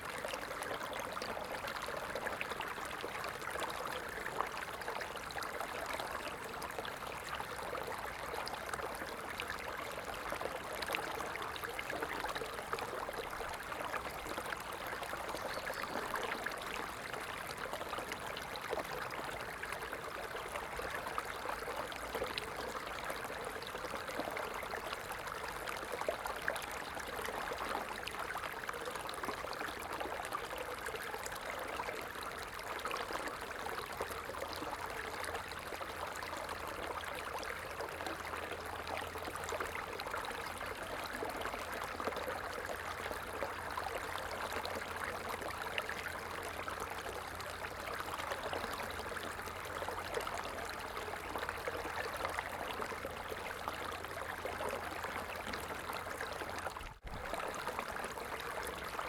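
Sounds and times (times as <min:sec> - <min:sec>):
stream water over stones: 0:00.0 - 0:59.0.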